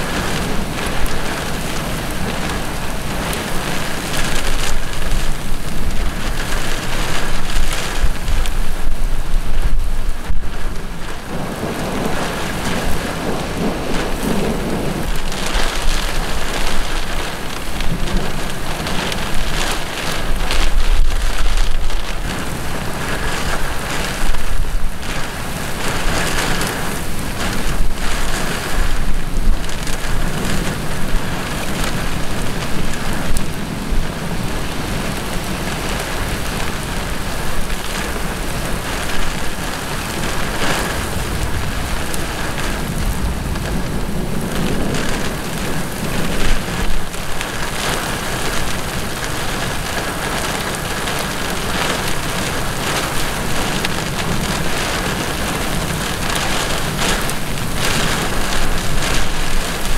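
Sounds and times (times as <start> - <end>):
heavy rain pouring on road: 0.0 - 59.9
low thunder rumbling: 0.0 - 59.9.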